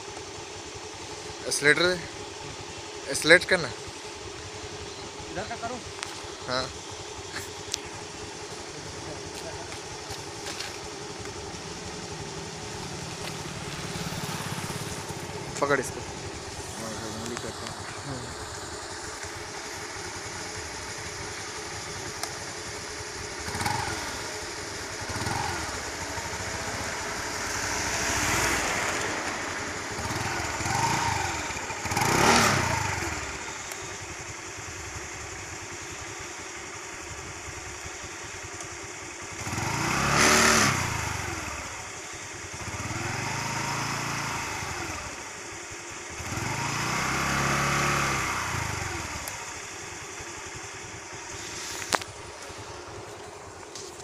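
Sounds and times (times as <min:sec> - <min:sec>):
motor scooter engines running: 0:00.0 - 0:54.0.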